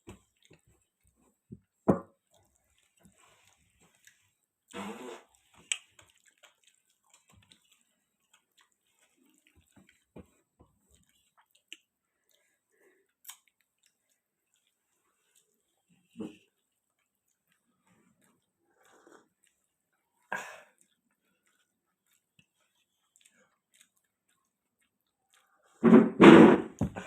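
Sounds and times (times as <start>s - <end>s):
chewing and mouth noises: 0.0s - 25.8s.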